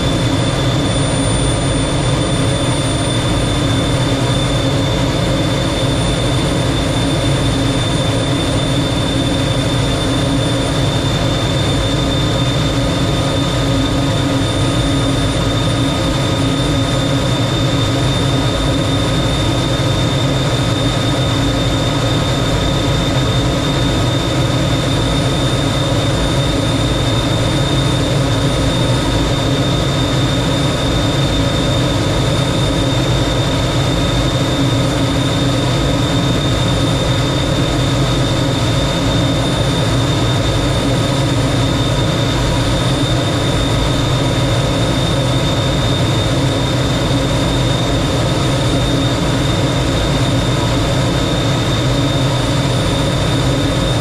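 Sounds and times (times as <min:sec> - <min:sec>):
jet engine rush and whine: 0:00.0 - 0:54.0.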